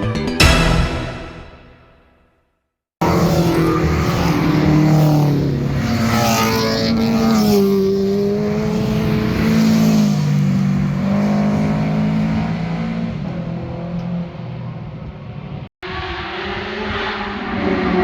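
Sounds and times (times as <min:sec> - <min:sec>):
car engines revving and passing: 0:03.0 - 0:18.0.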